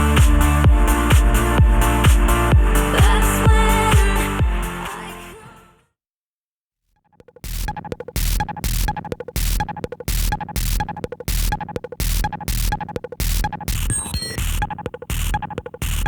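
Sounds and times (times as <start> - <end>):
electronic music with heavy kick drum: 0.0 - 5.0, 7.2 - 16.0.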